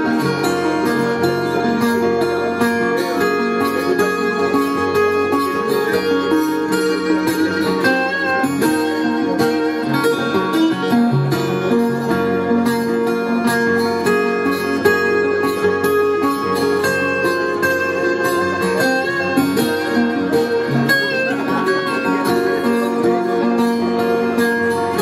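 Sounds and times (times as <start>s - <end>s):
lap steel guitar: 0.0s - 25.0s.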